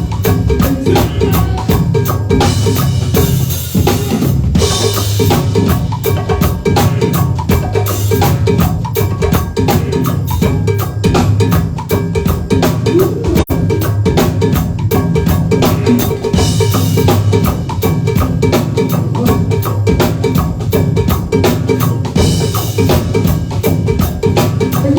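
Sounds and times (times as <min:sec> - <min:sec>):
band playing music: 0:00.0 - 0:24.9
bass drum and snare beat: 0:00.0 - 0:24.9.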